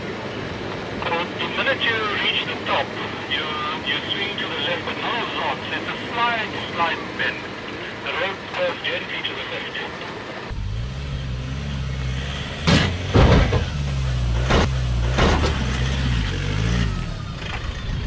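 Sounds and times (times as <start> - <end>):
truck engine running at low revs: 0.0 - 18.0.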